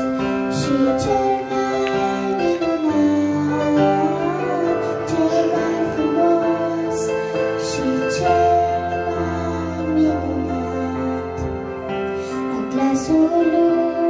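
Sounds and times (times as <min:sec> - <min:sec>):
girl singing into microphone: 0:00.0 - 0:14.0
keyboard playing held chords: 0:00.0 - 0:14.0.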